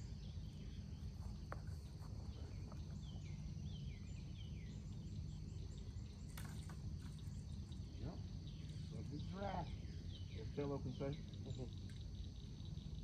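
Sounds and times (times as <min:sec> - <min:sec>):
bird chirping: 0:00.0 - 0:13.0
high insect drone: 0:00.0 - 0:13.0.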